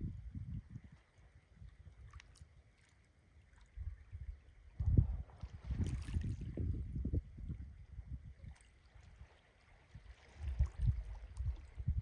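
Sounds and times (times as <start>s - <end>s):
wind buffeting microphone: 0.0s - 2.1s, 3.7s - 12.0s.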